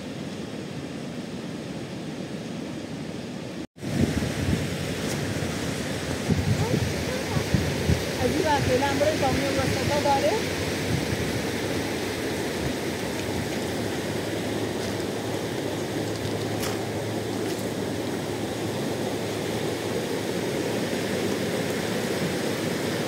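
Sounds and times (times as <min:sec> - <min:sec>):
fast-flowing river water rushing: 0:04.0 - 0:23.0.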